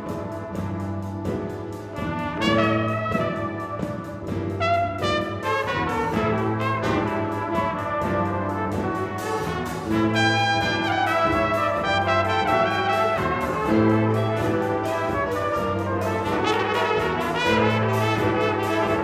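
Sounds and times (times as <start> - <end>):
concert band playing held chords: 0.0 - 19.0.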